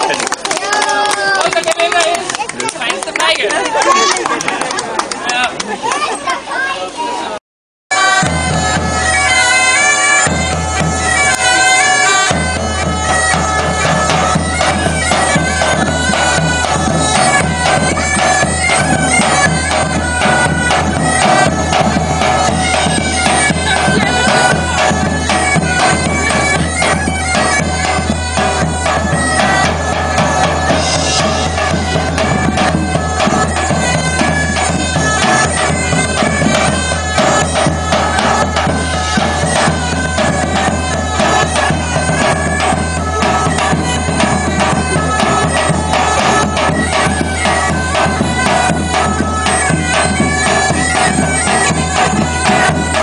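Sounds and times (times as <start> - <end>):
bagpipes playing a tune: 7.9 - 53.0
large drum beating: 7.9 - 53.0.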